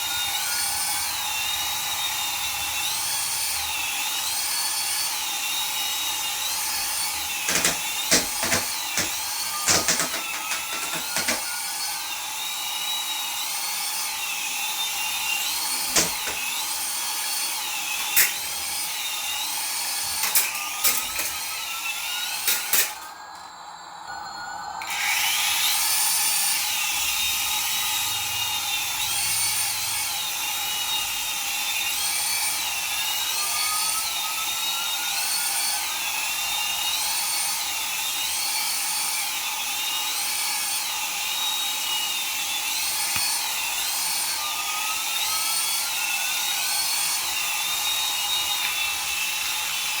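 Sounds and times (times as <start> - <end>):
small electric motor whining: 0.0 - 50.0.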